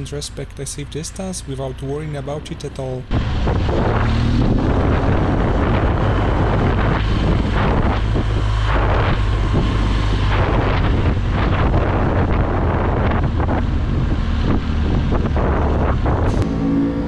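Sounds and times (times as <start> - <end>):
motorcycle engine rumble: 0.0 - 17.0
road noise: 0.0 - 17.0
wind rushing over microphone: 2.7 - 17.0.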